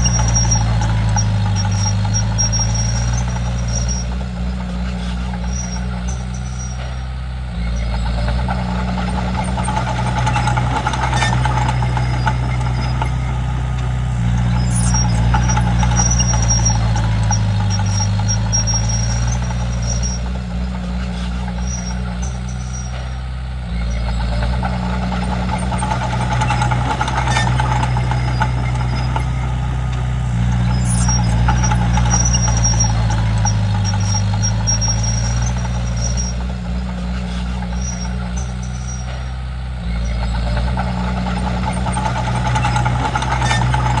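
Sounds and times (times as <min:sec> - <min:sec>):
bulldozer diesel engine under load: 0:00.0 - 0:44.0.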